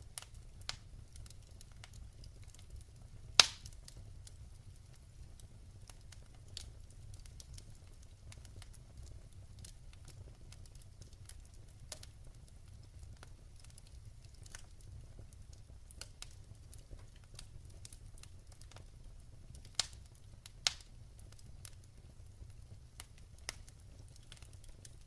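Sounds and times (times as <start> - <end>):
fire popping and snapping: 0.0 - 25.0
low rumble of flames: 0.0 - 25.0
wood fire crackling: 0.0 - 25.0.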